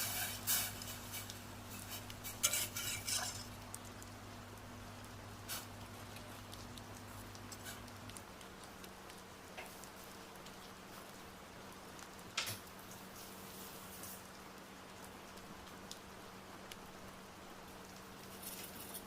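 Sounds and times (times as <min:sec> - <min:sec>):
light rain pattering: 0:00.0 - 0:19.0
small ticks: 0:00.8 - 0:17.0, 0:17.6 - 0:19.0.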